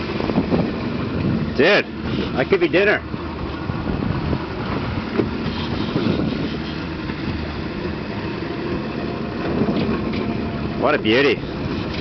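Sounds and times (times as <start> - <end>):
outboard engine running: 0.0 - 12.0
wind noise on microphone: 0.0 - 12.0.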